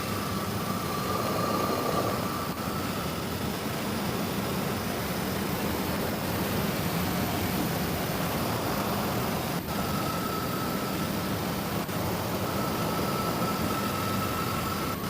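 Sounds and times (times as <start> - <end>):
steady rumbling noise: 0.0 - 15.0.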